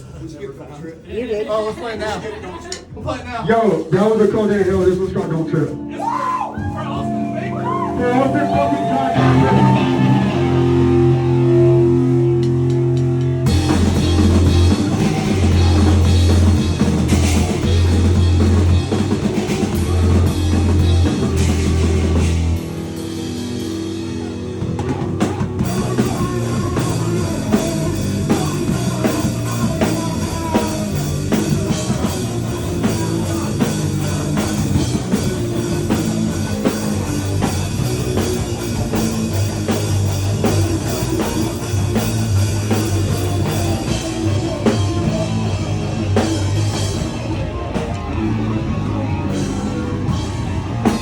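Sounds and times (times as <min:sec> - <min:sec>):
fast drums: 0:01.8 - 0:51.0
bass guitar: 0:02.8 - 0:51.0
distorted guitar: 0:03.9 - 0:51.0.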